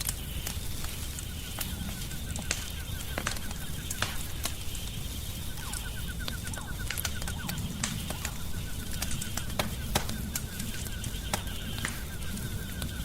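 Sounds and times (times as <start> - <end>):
wood fire crackling in a fireplace: 0.0 - 13.0.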